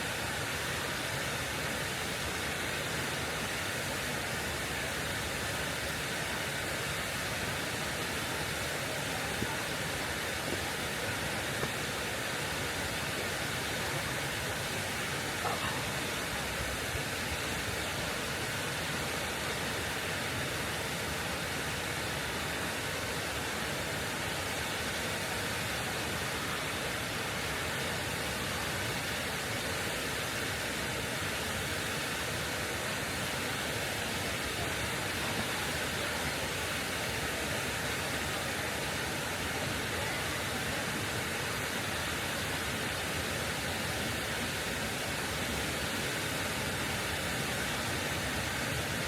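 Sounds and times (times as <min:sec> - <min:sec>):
rushing water: 0:00.0 - 0:49.0.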